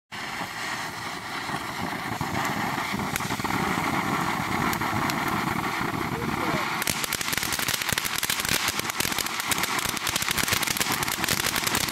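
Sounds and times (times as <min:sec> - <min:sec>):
firework crackles: 0:00.1 - 0:11.9
firework fountain hissing: 0:00.1 - 0:11.9.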